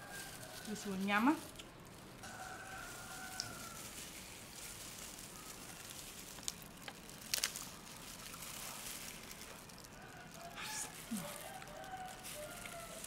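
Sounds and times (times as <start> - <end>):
faint steady hiss: 0.0 - 13.0
sharp cracks and crinkles: 0.0 - 13.0.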